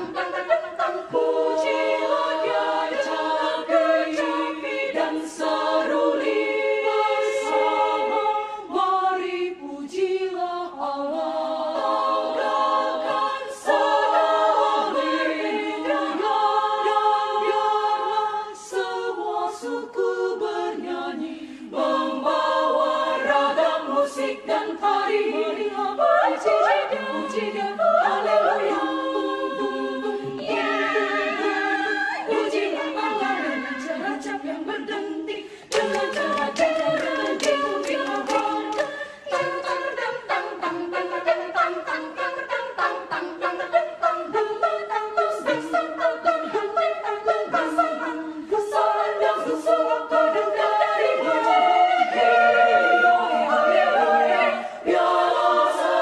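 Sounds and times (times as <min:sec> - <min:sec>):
women's choir singing a cappella: 0:00.0 - 0:56.0.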